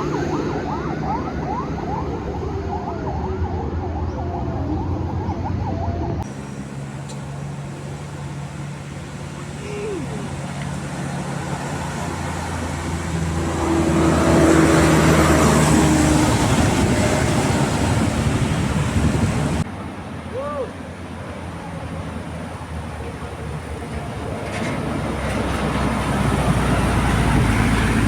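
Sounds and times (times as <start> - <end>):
bus engine drone passing: 0.0 - 28.0.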